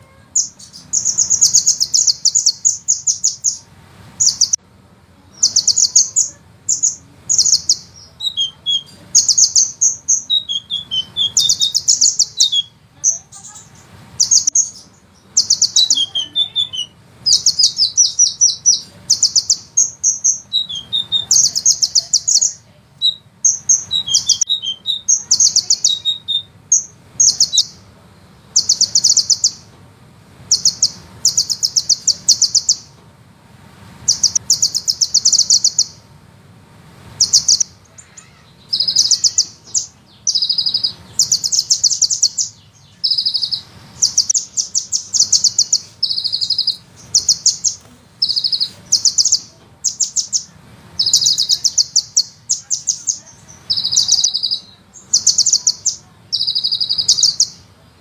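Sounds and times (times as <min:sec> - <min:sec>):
bird singing rolling trills: 0:00.0 - 0:29.8, 0:30.4 - 0:33.0, 0:34.0 - 0:36.2, 0:37.1 - 0:58.0.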